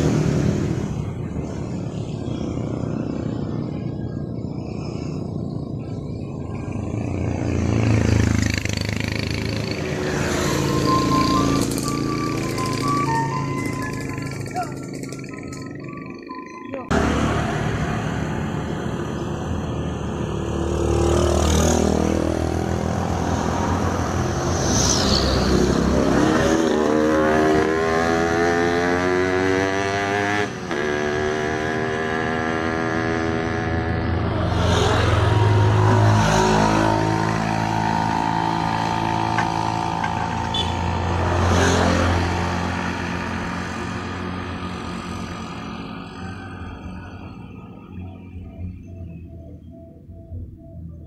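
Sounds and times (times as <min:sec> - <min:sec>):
motorcycles passing by: 0:00.0 - 0:51.0.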